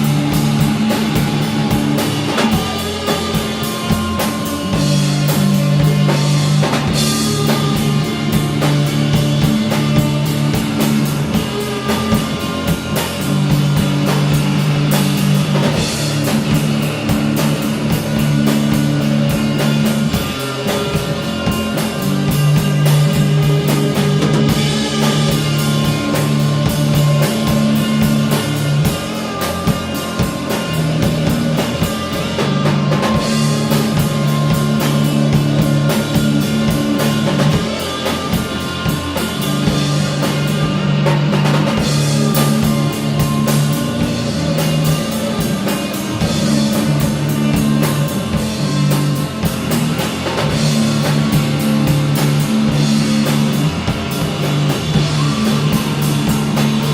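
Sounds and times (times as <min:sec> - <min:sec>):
drum kit groove: 0:00.0 - 0:56.9
heavy rock guitar riff: 0:00.0 - 0:56.9.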